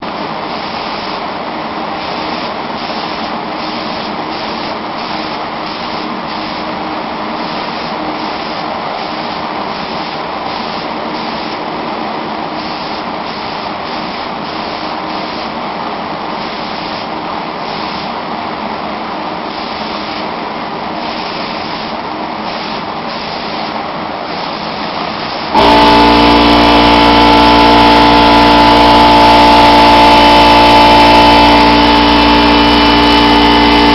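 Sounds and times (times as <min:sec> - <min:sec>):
air compressor whining hum: 0:00.0 - 0:33.9
steady rushing noise: 0:00.0 - 0:33.9.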